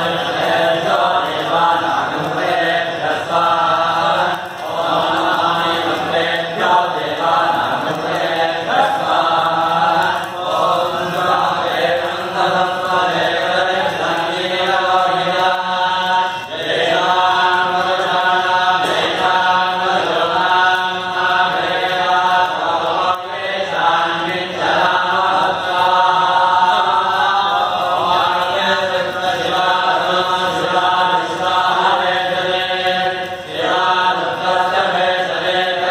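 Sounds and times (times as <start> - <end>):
priests chanting together: 0.0 - 35.9.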